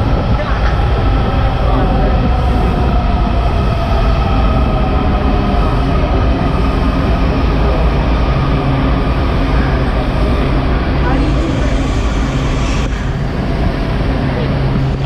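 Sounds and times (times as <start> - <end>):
faint whine: 0.0 - 15.0
railcar wheels rumbling: 0.0 - 15.0.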